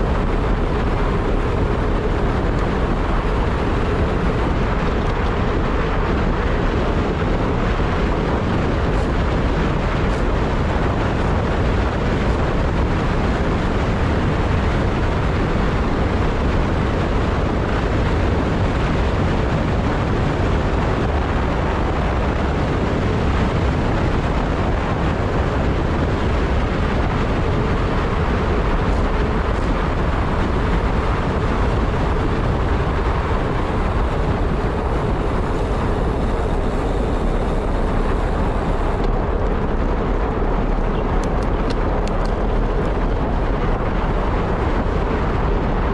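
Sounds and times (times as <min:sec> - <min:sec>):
low rumble: 0:00.0 - 0:45.9
wind rushing on microphone: 0:00.0 - 0:45.9.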